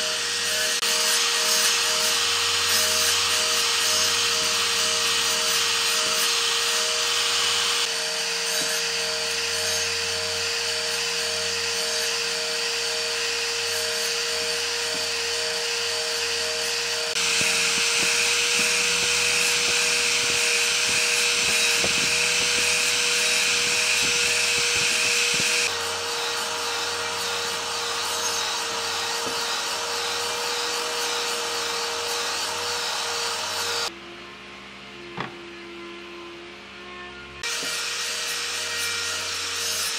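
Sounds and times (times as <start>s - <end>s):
miter saw cutting wood: 0.0s - 34.0s, 35.0s - 39.9s.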